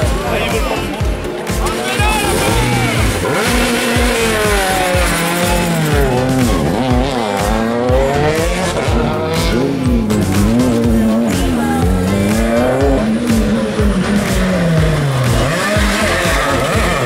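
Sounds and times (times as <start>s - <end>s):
rally car engine revving: 0.0s - 17.0s
second rally car engine: 0.0s - 17.0s.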